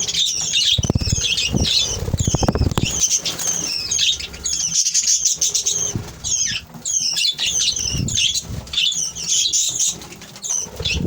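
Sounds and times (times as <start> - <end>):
flock of parrots chattering: 0.0 - 11.0.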